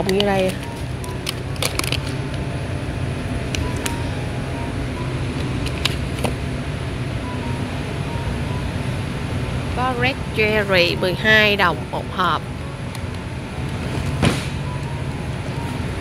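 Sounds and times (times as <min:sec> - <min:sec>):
low store background rumble: 0:00.0 - 0:16.0.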